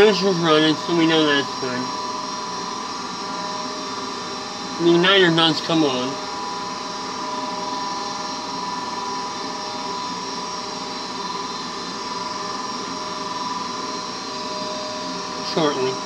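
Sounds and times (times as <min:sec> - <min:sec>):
furnace motor whine: 0:00.0 - 0:16.0
hum: 0:00.0 - 0:16.0.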